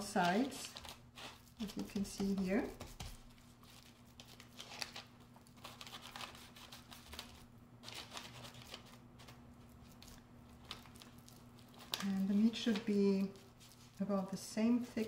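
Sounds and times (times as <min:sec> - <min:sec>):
low steady hum: 0:00.0 - 0:15.0
parchment paper crinkling: 0:00.0 - 0:15.0.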